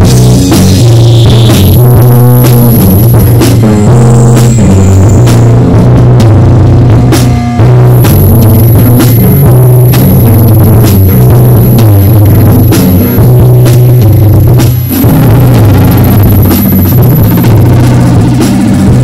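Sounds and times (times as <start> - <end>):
thin high whine: 0.0 - 5.9, 6.6 - 19.0
loud rock band music: 0.0 - 19.0.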